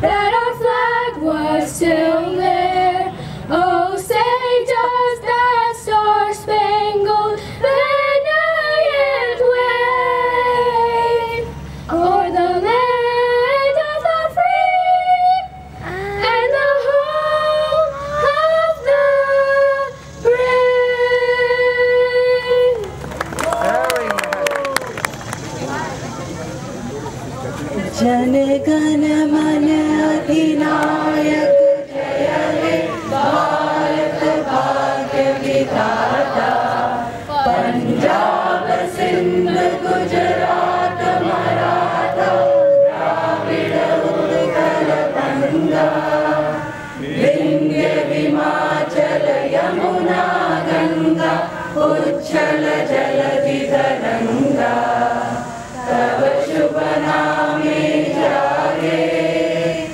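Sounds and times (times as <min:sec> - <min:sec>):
group of voices singing: 0:00.0 - 0:22.8, 0:27.8 - 0:59.9.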